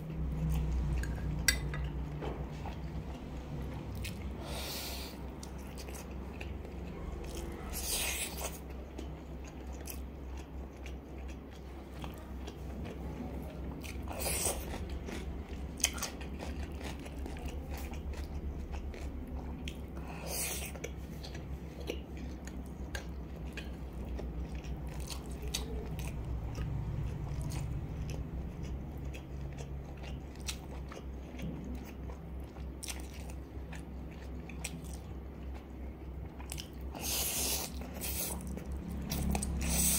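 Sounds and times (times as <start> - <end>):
steady low hum: 0.0 - 39.9
wet chewing: 0.0 - 39.9.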